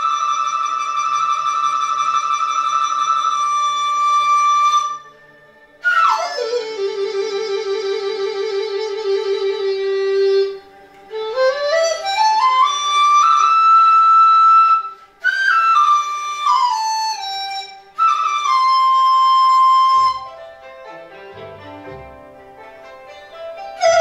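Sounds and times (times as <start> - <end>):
bamboo flute melody: 0.0 - 24.0.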